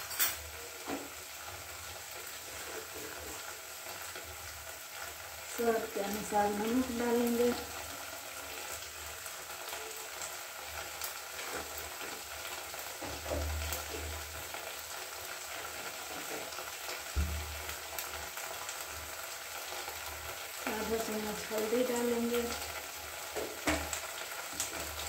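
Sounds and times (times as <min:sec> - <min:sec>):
paste sizzling in a pan: 0:00.0 - 0:25.0.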